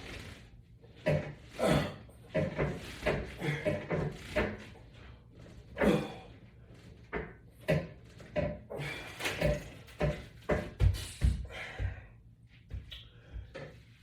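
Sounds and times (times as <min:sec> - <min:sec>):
exercise attachment knocks and bumps: 0:00.0 - 0:06.2, 0:06.8 - 0:12.0.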